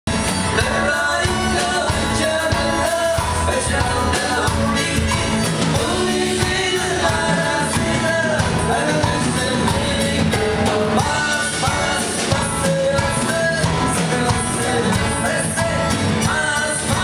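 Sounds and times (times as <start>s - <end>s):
congas: 0.1s - 17.0s
drum kit: 0.1s - 17.0s
electric bass: 0.1s - 17.0s
live band playing: 0.1s - 17.0s
strummed acoustic guitars: 0.1s - 17.0s.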